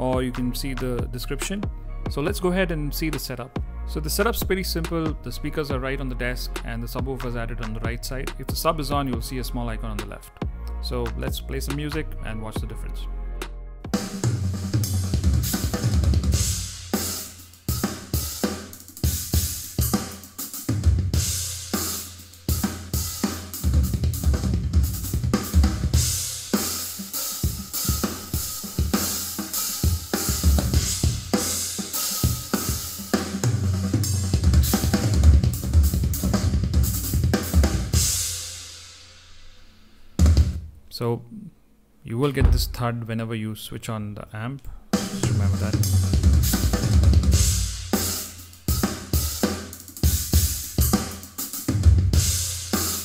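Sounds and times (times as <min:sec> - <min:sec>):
drum kit playing over speakers: 0:00.0 - 0:12.8, 0:13.9 - 0:39.4, 0:40.1 - 0:40.7, 0:42.4 - 0:42.9, 0:44.9 - 0:53.0.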